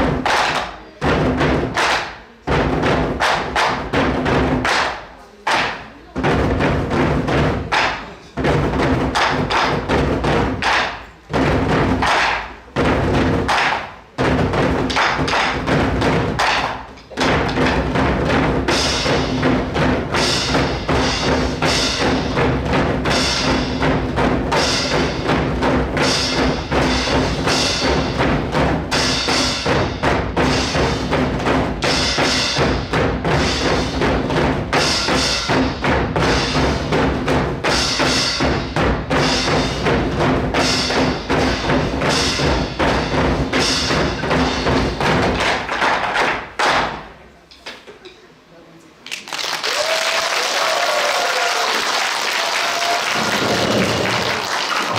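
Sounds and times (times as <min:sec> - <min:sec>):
drummers striking drums in unison: 0:00.0 - 0:47.3, 0:49.6 - 0:54.9.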